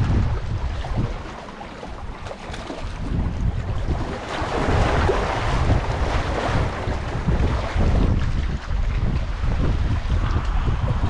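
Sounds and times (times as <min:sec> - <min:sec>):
seawater washing against concrete: 0:00.0 - 0:11.0
wind buffeting microphone: 0:00.0 - 0:11.0.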